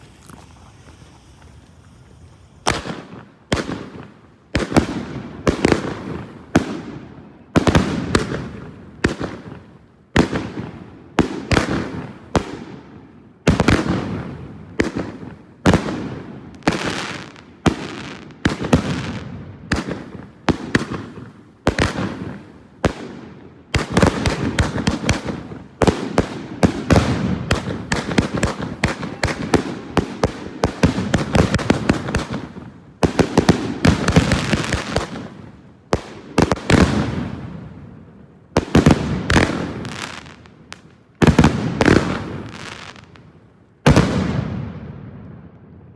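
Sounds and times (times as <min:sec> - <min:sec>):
firework bangs with crackle: 0:00.0 - 0:45.9.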